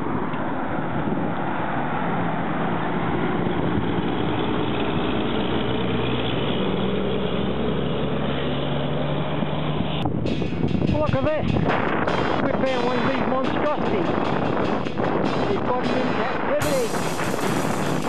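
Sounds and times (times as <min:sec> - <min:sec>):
wind and road noise: 0:00.0 - 0:18.0
truck diesel engine running: 0:03.2 - 0:18.0.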